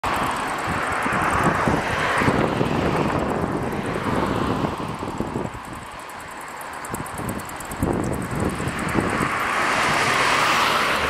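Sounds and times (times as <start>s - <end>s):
jet engines roaring at takeoff: 0.0s - 11.0s
wind buffeting microphone: 0.0s - 11.0s.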